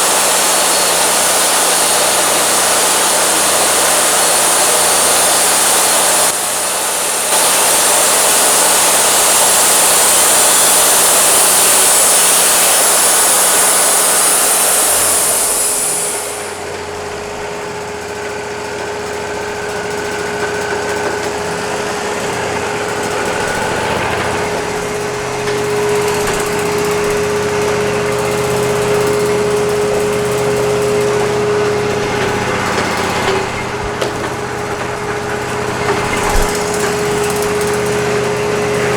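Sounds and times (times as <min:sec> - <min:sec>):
band sawmill cutting log: 0:00.0 - 0:38.9
machine running with whine: 0:00.0 - 0:38.9.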